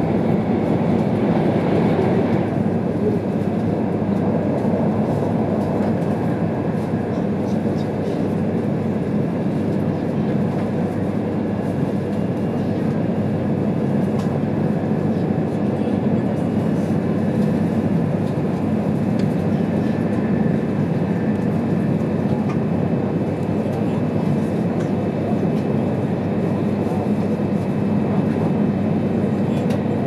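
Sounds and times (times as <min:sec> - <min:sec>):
train cabin rush at high speed: 0:00.0 - 0:30.0.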